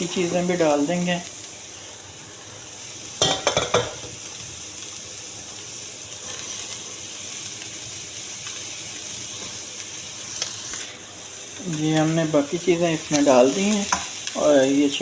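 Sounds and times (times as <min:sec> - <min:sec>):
food sizzling in butter: 0:00.0 - 0:15.0.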